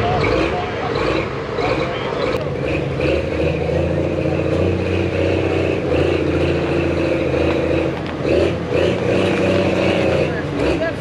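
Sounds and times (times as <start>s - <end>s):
large engine running: 0.0s - 11.0s.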